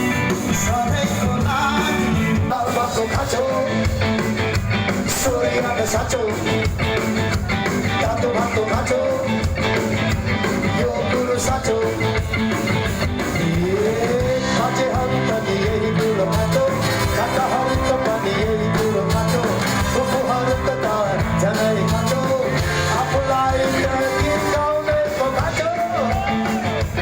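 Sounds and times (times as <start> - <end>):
person singing: 0.0 - 4.1, 5.1 - 6.7, 7.8 - 9.8, 10.5 - 12.5, 13.2 - 26.8
live rock band playing: 0.0 - 27.0
steady drum beat: 0.0 - 27.0.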